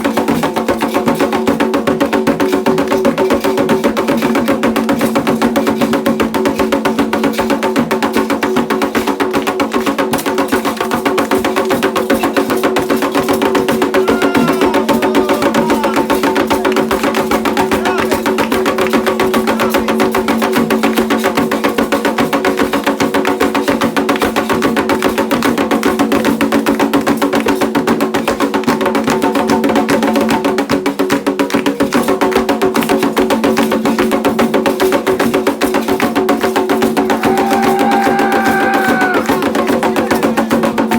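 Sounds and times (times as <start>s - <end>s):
hand drums: 0.0s - 40.9s.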